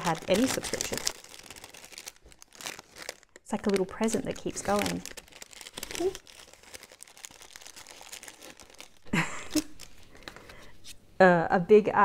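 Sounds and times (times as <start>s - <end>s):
paper envelope crinkling: 0.0s - 10.7s.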